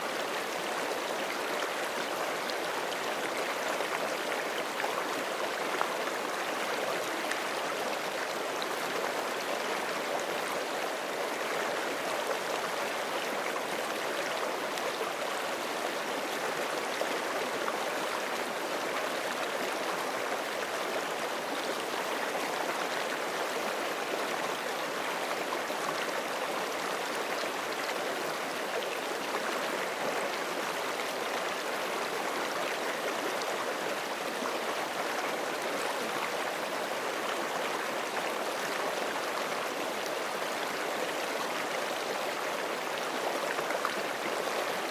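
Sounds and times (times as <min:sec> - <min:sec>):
creek babbling over rocks: 0:00.0 - 0:44.9.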